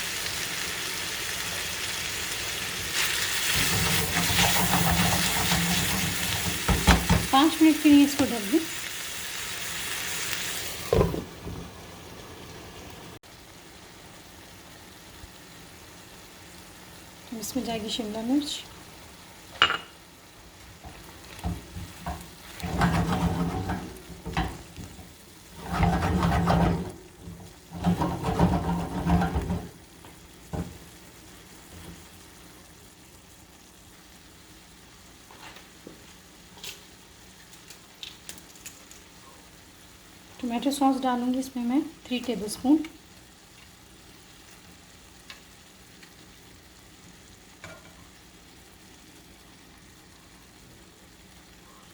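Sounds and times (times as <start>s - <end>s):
chicken sizzling in a pan: 0.0s - 51.9s.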